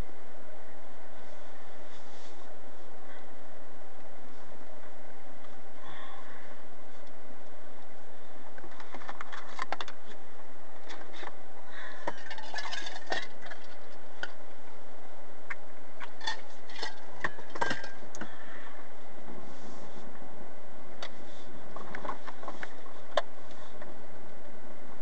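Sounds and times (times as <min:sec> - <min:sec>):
low vehicle hum: 0:00.0 - 0:25.0.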